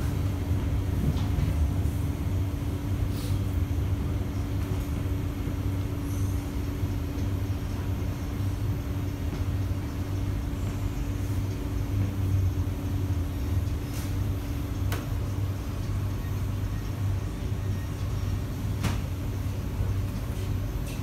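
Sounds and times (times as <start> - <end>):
train carriage rumble and hum: 0.0 - 21.0.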